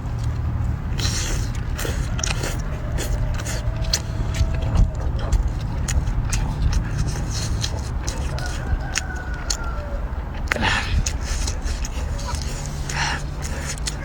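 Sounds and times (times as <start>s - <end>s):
low rumble: 0.0s - 14.0s
person chewing seafood: 0.0s - 14.0s.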